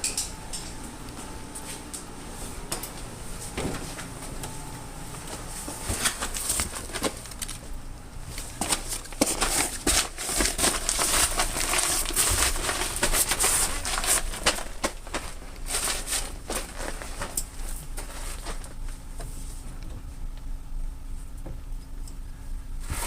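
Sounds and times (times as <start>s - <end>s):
rustling and crinkling: 0.5s - 20.3s.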